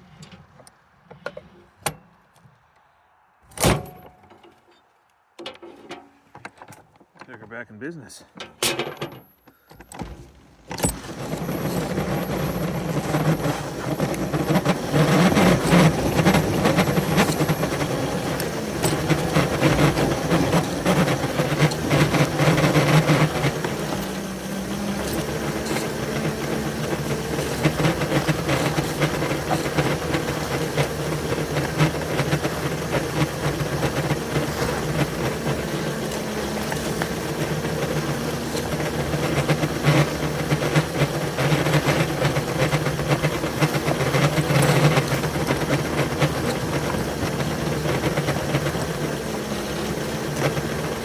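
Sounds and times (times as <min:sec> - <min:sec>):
locomotive engines droning: 0:00.0 - 0:02.8, 0:03.4 - 0:51.0.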